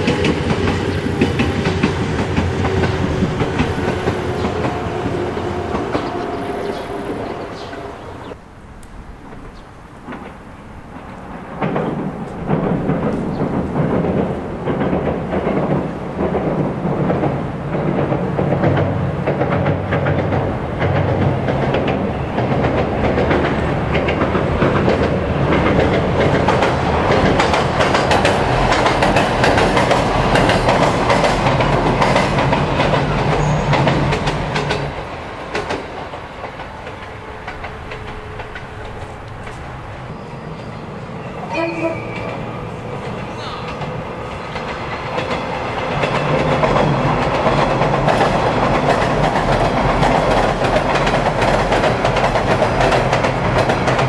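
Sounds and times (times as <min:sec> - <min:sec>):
train wheels clacking over rail joints: 0:00.0 - 0:06.8, 0:09.2 - 0:40.1, 0:42.1 - 0:54.0
heavy rumble of train on bridge: 0:00.0 - 0:54.0.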